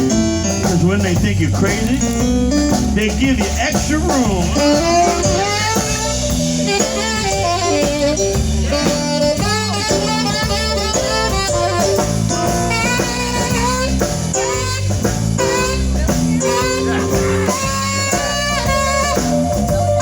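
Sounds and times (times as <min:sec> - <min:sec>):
bending lead melody: 0:00.0 - 0:20.0
blues band playing: 0:00.0 - 0:20.0.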